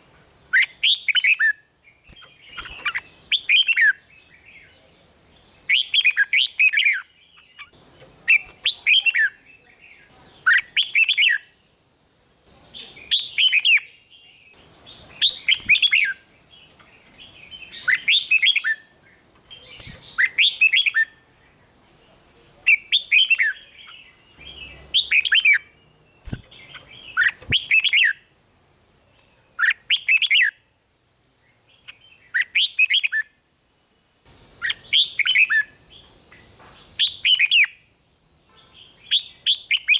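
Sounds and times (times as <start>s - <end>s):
bird singing warbled phrases: 0.5s - 11.6s, 12.5s - 28.3s, 29.2s - 30.6s, 31.6s - 33.4s, 34.5s - 37.9s, 38.6s - 39.9s.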